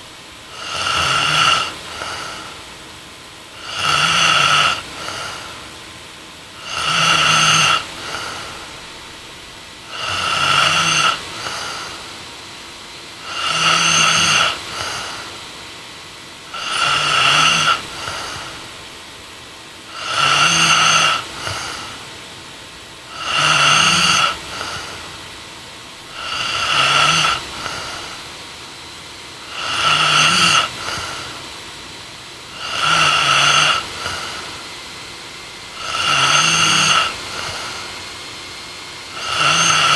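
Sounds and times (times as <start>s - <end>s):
woman snoring: 0.5s - 2.8s, 3.4s - 5.8s, 6.6s - 12.3s, 13.1s - 15.6s, 16.4s - 19.2s, 19.8s - 22.2s, 23.0s - 31.6s, 32.4s - 38.0s, 39.0s - 39.9s.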